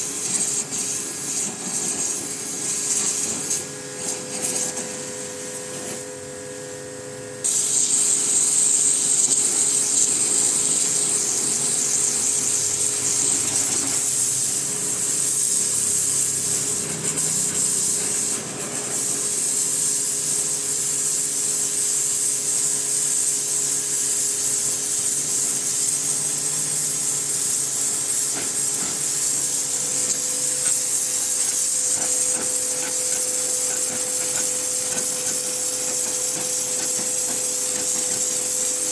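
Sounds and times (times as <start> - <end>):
water jet hissing: 0.0 - 6.1, 7.4 - 38.9
pressure washer motor hum: 0.0 - 38.9.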